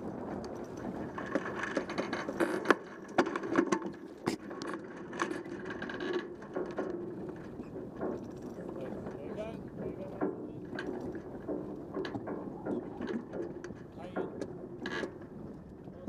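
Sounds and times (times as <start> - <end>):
sharp clicks and knocks: 0.4 - 15.7.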